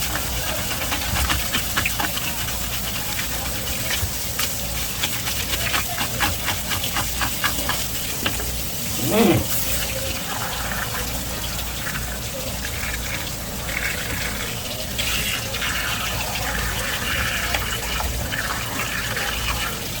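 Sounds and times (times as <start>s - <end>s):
tap water running and splashing: 0.0s - 20.0s.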